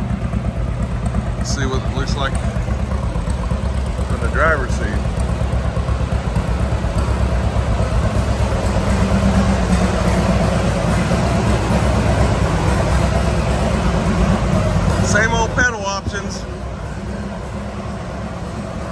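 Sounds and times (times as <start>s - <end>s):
engine idling: 0.0s - 18.9s.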